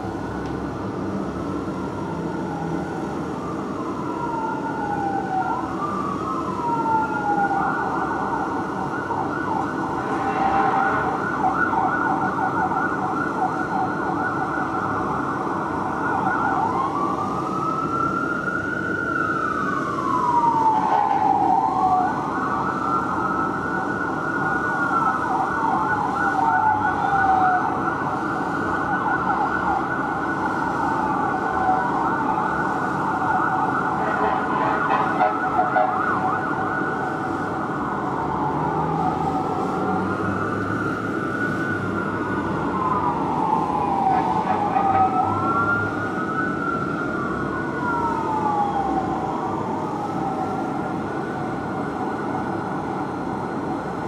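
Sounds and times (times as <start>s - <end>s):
fire truck sirens wailing: 0.0s - 54.0s
low traffic rumble: 0.0s - 54.0s.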